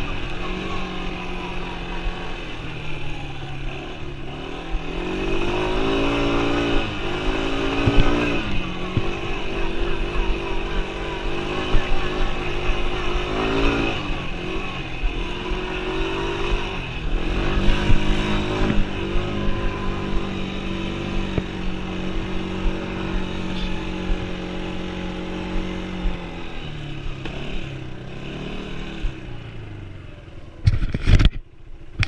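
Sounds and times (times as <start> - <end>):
quad engine running: 0.0 - 32.0.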